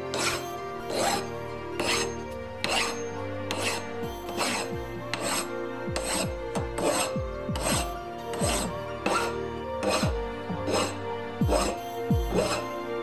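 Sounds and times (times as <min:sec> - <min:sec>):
background music: 0:00.0 - 0:13.0
file rasping on metal: 0:00.0 - 0:13.0.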